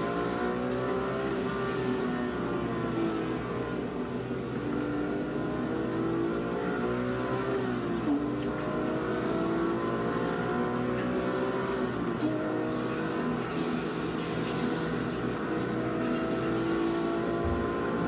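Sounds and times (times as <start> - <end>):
car engine accelerating from cabin: 0.0 - 18.0.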